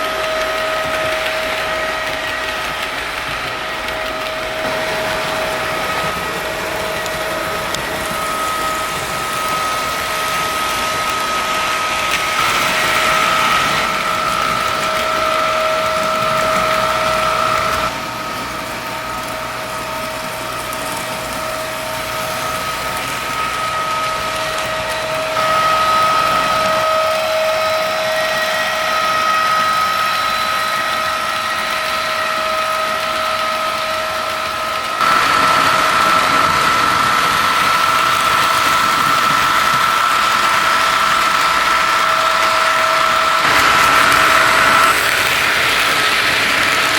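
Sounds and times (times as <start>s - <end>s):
model train motor whine: 0.0s - 46.9s
train rolling on track: 0.0s - 46.9s.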